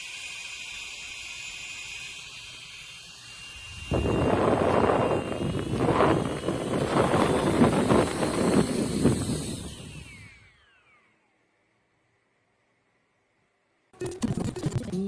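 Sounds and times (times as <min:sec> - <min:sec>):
fan motor whine: 0:00.0 - 0:12.1.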